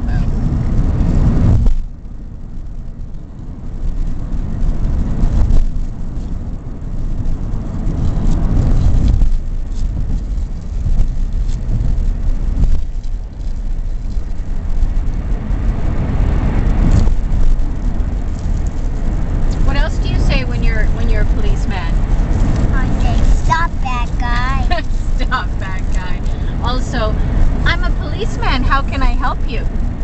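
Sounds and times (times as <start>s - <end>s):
car cabin road rumble: 0.0s - 30.0s.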